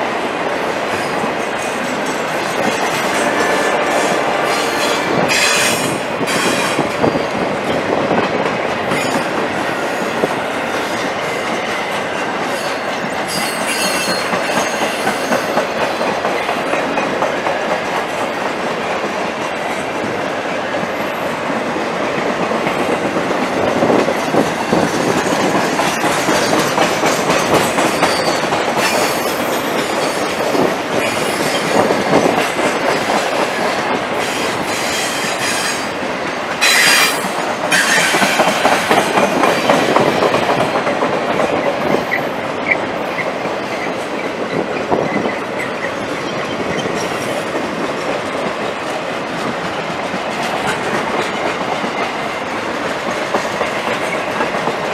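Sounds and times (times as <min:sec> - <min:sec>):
train rolling past: 0:00.0 - 0:54.9
wheels clattering on rail: 0:00.0 - 0:54.9.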